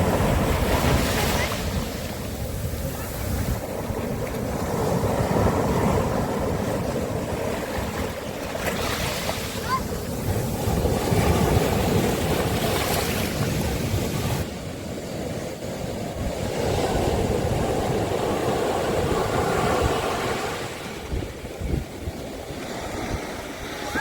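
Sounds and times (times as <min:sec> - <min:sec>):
sea waves washing onto beach: 0:00.0 - 0:24.0
wind rumble on microphone: 0:00.0 - 0:24.0.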